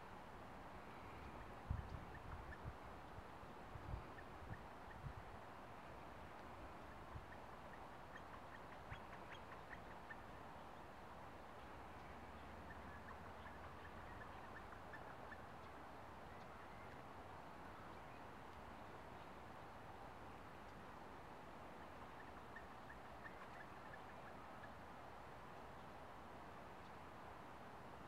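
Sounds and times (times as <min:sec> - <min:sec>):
low steady background hiss: 0:00.0 - 0:28.0
woodpecker calling faintly: 0:00.7 - 0:20.9, 0:21.6 - 0:26.0.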